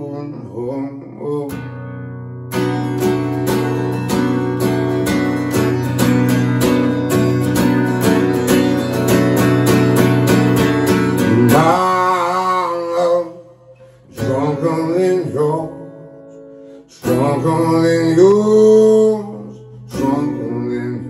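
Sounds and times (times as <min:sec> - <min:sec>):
man singing: 0:00.0 - 0:01.8, 0:03.2 - 0:08.4, 0:10.9 - 0:21.0
acoustic guitar chords: 0:00.0 - 0:21.0.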